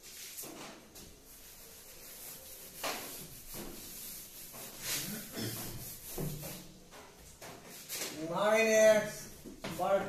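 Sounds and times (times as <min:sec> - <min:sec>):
duster wiping blackboard: 0:00.0 - 0:08.4.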